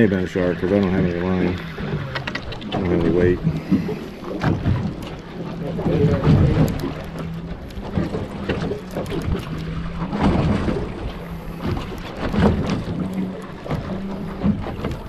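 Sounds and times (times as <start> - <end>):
outboard motor idling: 0.0 - 15.0.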